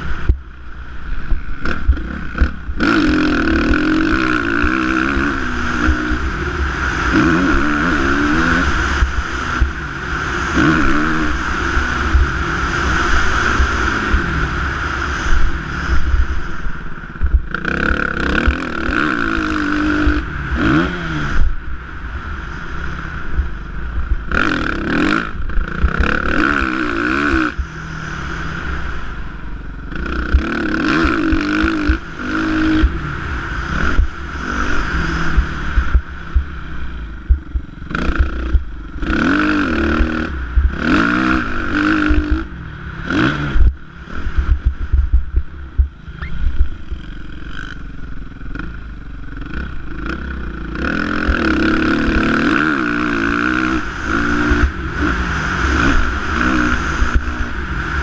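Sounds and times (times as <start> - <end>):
motocross bike engine revving: 0.0 - 58.0
wind rumble on microphone: 0.0 - 58.0.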